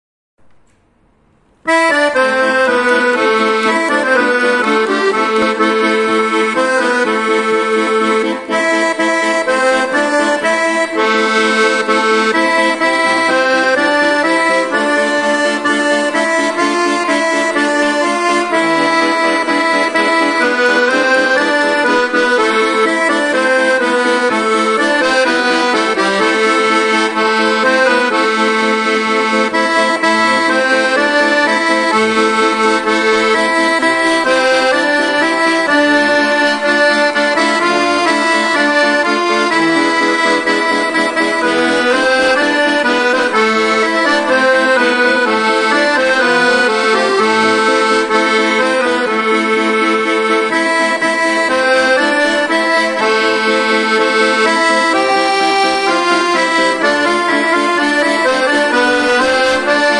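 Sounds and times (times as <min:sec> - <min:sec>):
accordion bass buttons: 0:00.4 - 0:59.9
accordion melody: 0:00.4 - 0:59.9.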